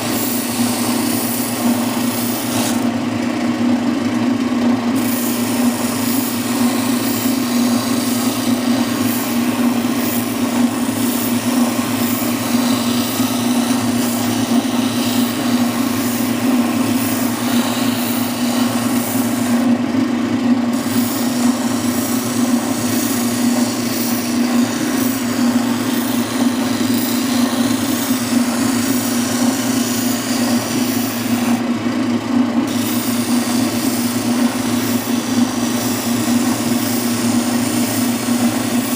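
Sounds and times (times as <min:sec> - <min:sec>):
wood being sanded: 0:00.0 - 0:02.9, 0:04.8 - 0:31.7, 0:32.6 - 0:38.9
spindle sander humming: 0:00.0 - 0:38.9.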